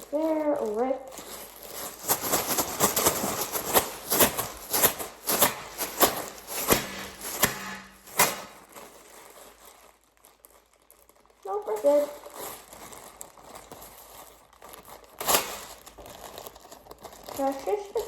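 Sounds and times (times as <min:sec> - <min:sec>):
bag crinkling: 0:00.0 - 0:18.0.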